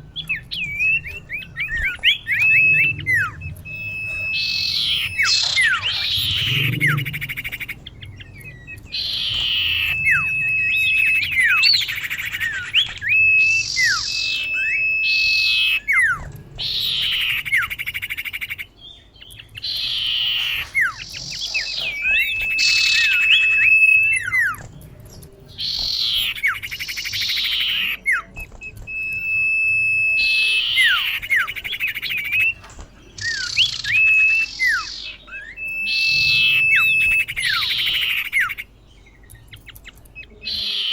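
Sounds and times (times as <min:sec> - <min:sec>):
bird calling: 0:00.0 - 0:40.9.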